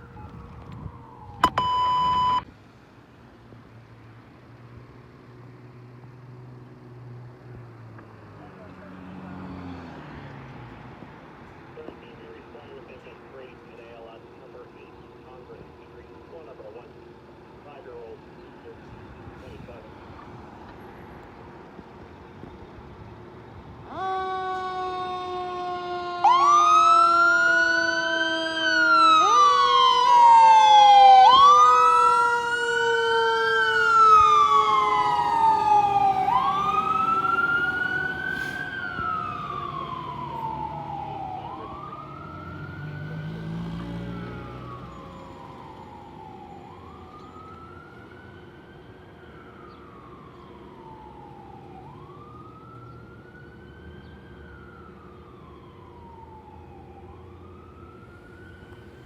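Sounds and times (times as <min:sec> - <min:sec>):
fire truck siren wailing: 0:00.0 - 0:02.5, 0:11.7 - 0:59.0.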